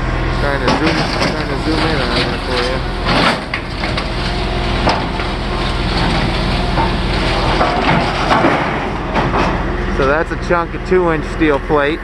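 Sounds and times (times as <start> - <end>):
machine engine running: 0.0 - 12.0.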